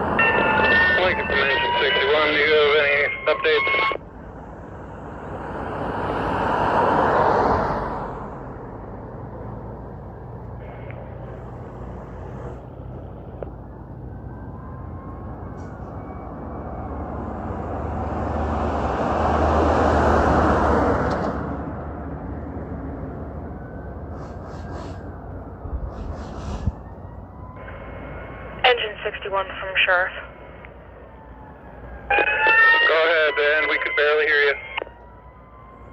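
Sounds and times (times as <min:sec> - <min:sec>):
vehicles passing by: 0:00.0 - 0:35.9.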